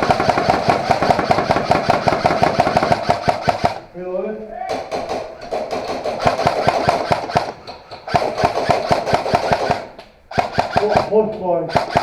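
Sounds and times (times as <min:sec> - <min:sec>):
airsoft rifle firing bursts: 0:00.0 - 0:03.9, 0:04.7 - 0:12.0.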